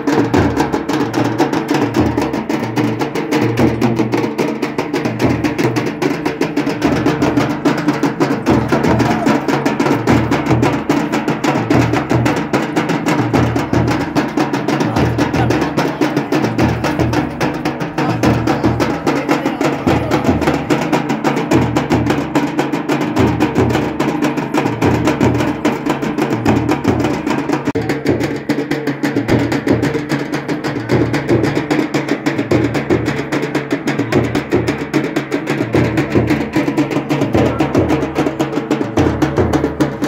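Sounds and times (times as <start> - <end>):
fast drum music: 0.0 - 40.0.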